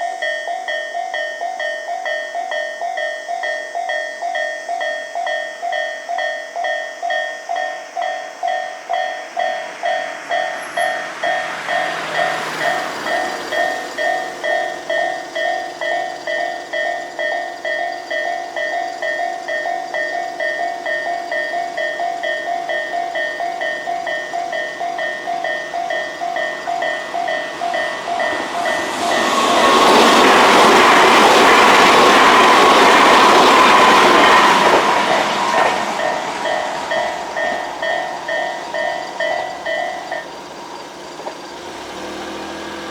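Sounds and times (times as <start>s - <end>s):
level-crossing warning bell: 0.0s - 42.9s
train wheels on rails: 0.0s - 42.9s.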